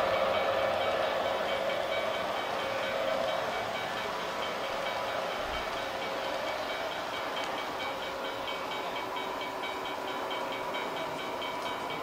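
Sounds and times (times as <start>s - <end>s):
crossing bell ringing: 0.0s - 12.0s
model train wheels rumbling: 0.0s - 12.0s.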